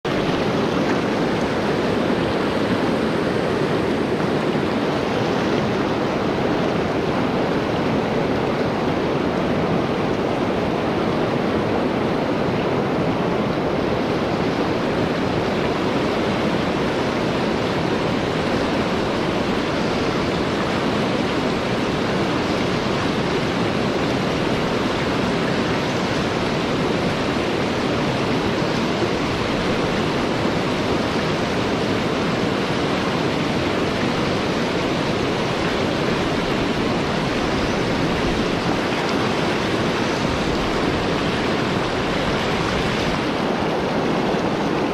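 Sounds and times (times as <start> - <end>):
river rushing over stones: 0.0 - 44.9.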